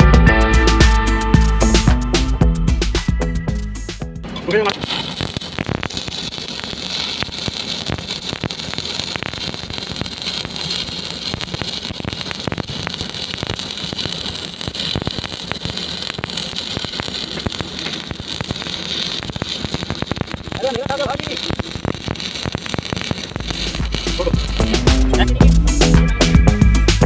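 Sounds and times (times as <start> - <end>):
welding arc crackling: 0.4 - 27.0.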